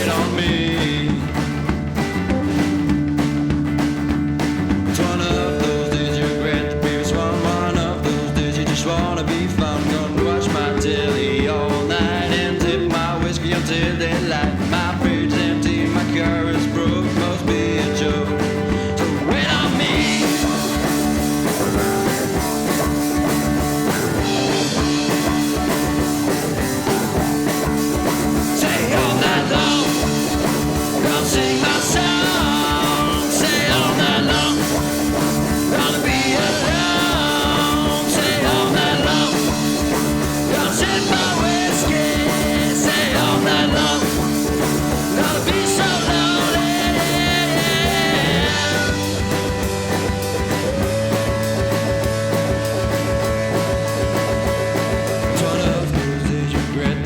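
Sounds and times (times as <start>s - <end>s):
rock music with singing: 0.0s - 57.0s.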